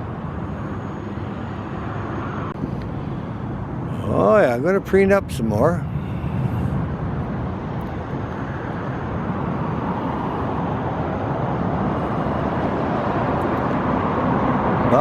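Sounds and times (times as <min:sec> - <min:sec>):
distant motor vehicles rumbling: 0:00.0 - 0:15.0.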